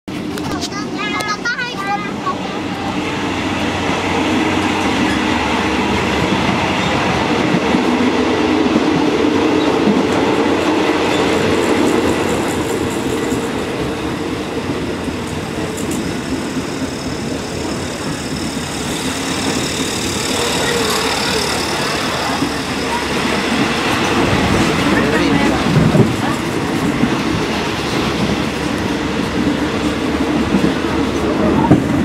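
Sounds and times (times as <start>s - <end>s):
train wheels on rails: 0.1s - 32.0s.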